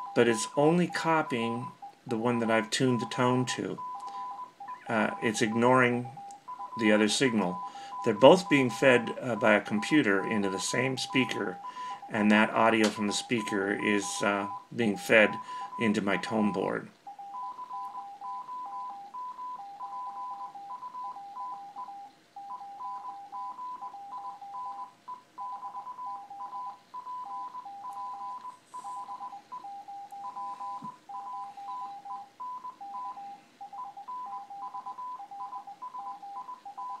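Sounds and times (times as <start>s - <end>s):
morse code beeping tones: 0.0s - 37.0s.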